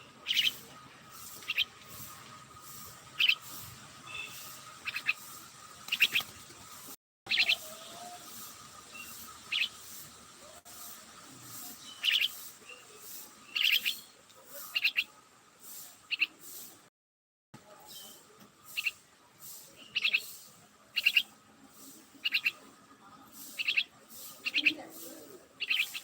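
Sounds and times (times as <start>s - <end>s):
small birds chirping: 0.0s - 16.8s, 17.8s - 26.0s.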